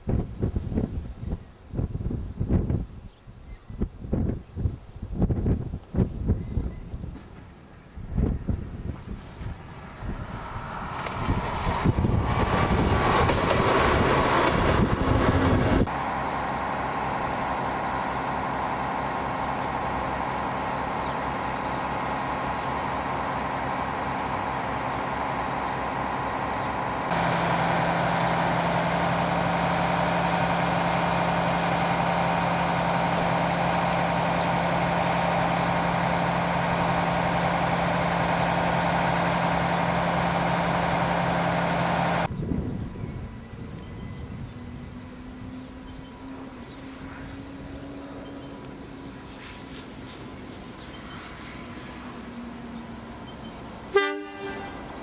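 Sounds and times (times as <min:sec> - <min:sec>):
railcar passing: 0:04.1 - 0:55.0
diesel engine idling: 0:06.8 - 0:42.3, 0:43.3 - 0:55.0.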